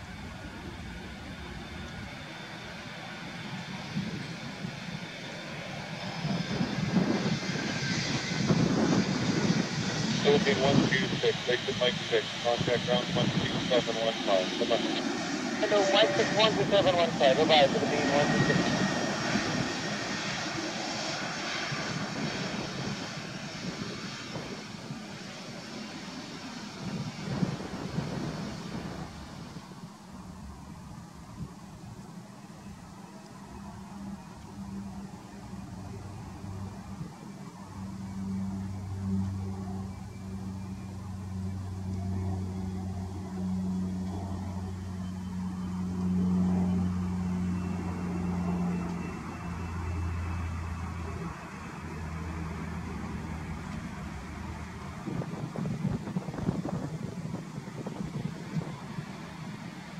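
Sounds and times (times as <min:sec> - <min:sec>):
jet engines rushing: 0:00.0 - 0:59.9
low hum: 0:00.0 - 0:59.9.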